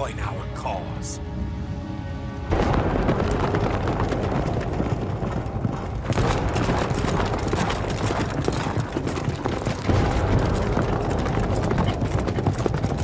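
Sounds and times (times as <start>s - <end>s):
many footsteps marching: 2.5s - 13.0s.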